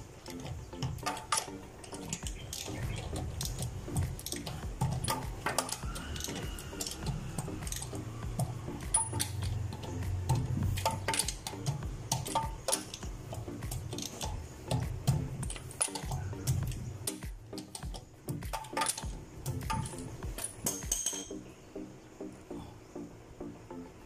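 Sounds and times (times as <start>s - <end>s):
steady low hum: 0.0s - 24.0s
metallic tool clicks and clinks: 0.2s - 21.4s.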